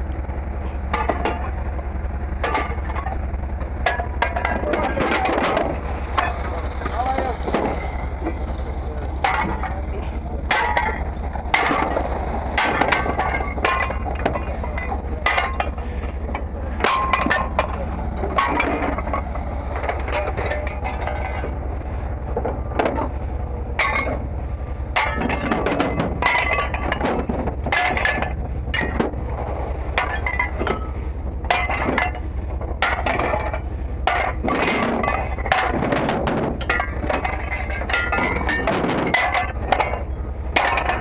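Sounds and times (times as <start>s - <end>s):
steady low hum: 0.0s - 41.0s
scrap metal clanking: 0.6s - 1.8s, 2.4s - 41.0s.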